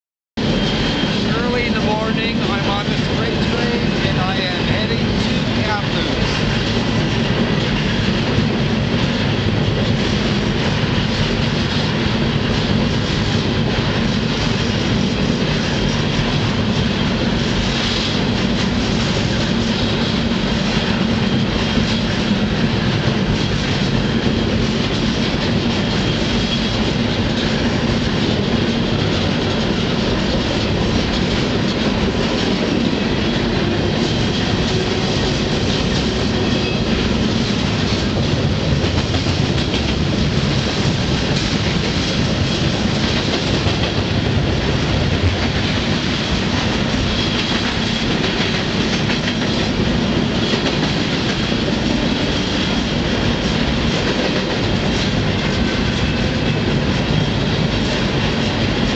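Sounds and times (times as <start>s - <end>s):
steel train wheels rumbling on rails: 0.4s - 58.9s.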